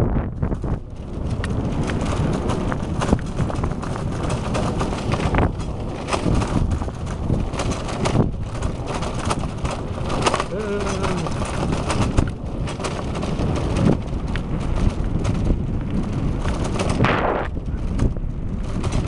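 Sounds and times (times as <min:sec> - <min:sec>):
bicycle rattling over rough pavement: 0:00.0 - 0:19.0
wind buffeting microphone: 0:00.0 - 0:19.0.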